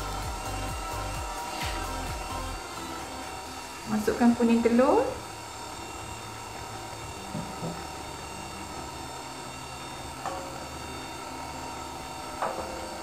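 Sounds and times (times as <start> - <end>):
electric stand mixer humming: 0.0 - 13.0.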